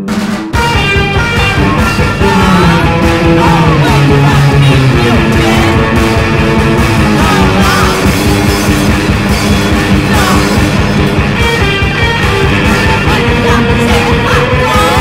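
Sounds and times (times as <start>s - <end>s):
fast drumming: 0.0s - 15.0s
guitars holding chords: 0.0s - 15.0s.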